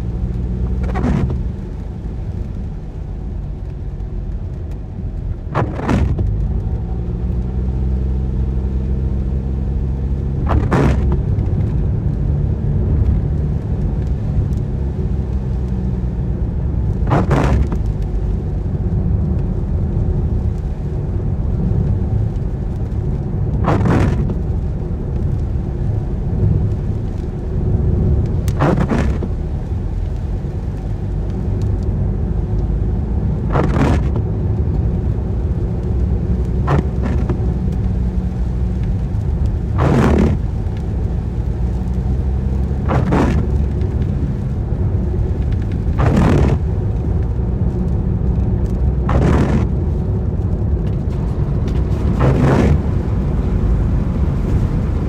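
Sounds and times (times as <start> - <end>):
car engine accelerating: 0.0 - 55.0
tyre and road rumble: 0.0 - 55.0
windscreen wipers swishing: 0.0 - 55.0.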